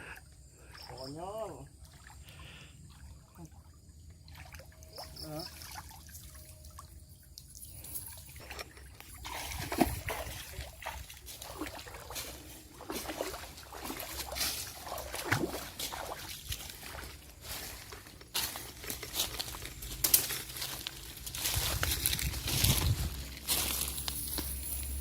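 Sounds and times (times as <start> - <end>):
water trickling: 0.0 - 25.0
river water splashing: 0.6 - 25.0.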